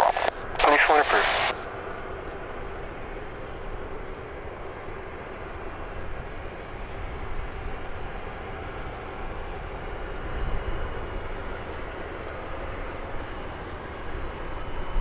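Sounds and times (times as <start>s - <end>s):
jet aircraft engine noise: 0.0s - 15.0s.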